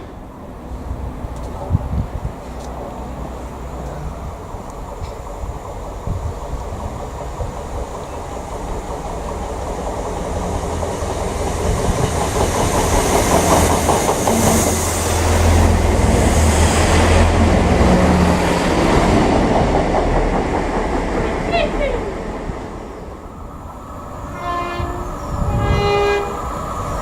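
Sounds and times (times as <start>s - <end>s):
train passing: 0.0s - 27.0s.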